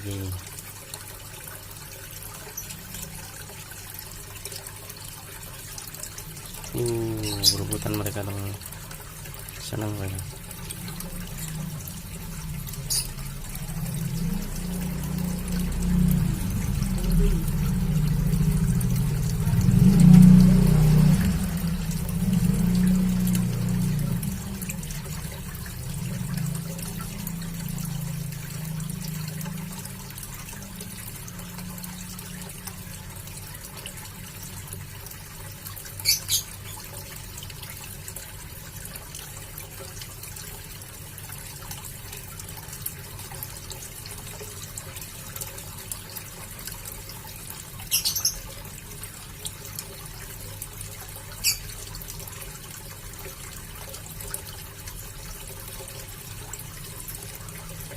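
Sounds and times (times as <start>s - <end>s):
water trickling: 0.0s - 57.9s.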